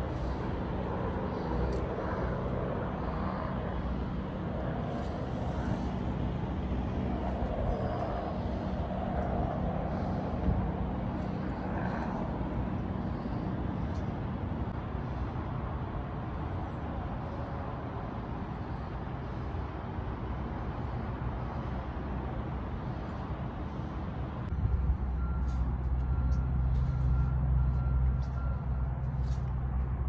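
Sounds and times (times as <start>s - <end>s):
engine and traffic noise: 0.0s - 30.0s
low engine rumble: 0.0s - 30.0s.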